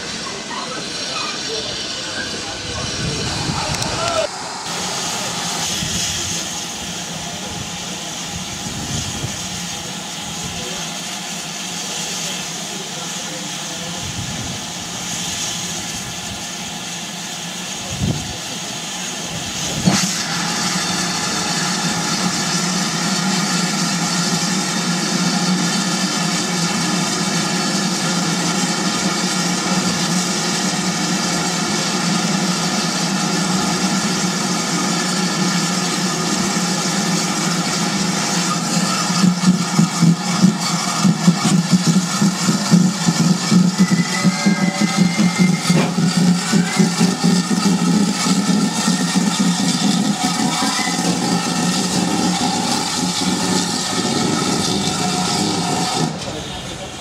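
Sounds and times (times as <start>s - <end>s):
hiss of escaping steam: 0.0s - 57.0s.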